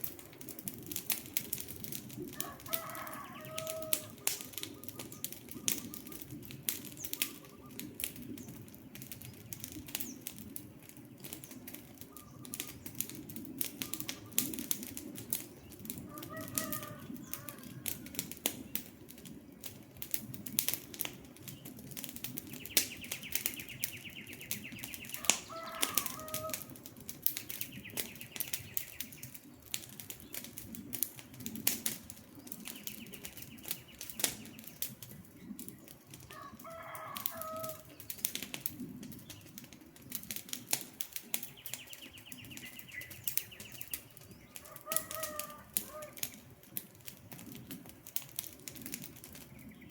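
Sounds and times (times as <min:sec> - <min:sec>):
campfire crackling and popping: 0:00.0 - 0:49.9
birds calling: 0:01.9 - 0:19.4, 0:20.9 - 0:39.8, 0:40.4 - 0:49.9.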